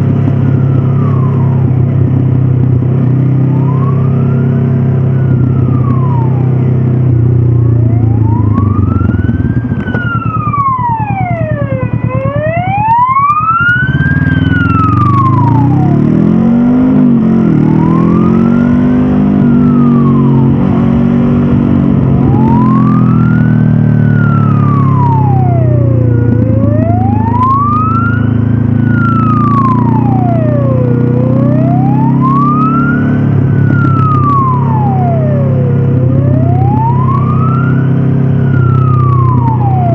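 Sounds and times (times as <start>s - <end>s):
motorcycle engine running: 0.0s - 39.9s
wailing siren: 0.0s - 39.9s.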